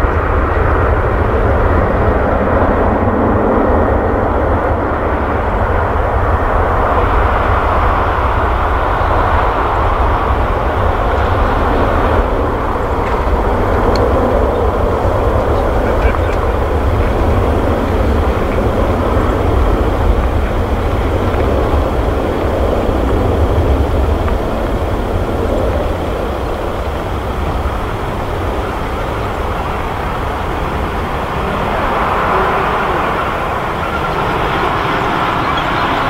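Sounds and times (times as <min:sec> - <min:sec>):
jet engines at takeoff thrust: 0:00.0 - 0:36.0.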